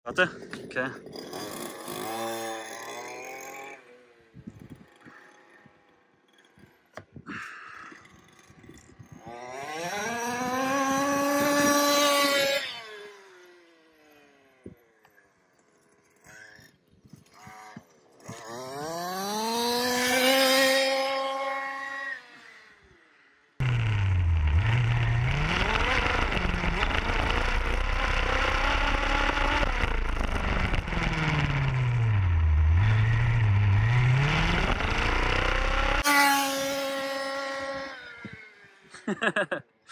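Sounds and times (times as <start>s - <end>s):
rc car engine revving: 1.0s - 14.9s, 15.8s - 23.0s, 23.6s - 39.0s.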